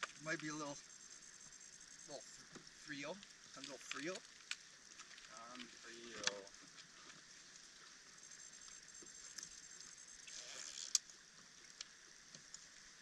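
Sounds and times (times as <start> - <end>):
small ticks and crackles: 0.0 - 13.0
water splashing and lapping: 2.2 - 13.0.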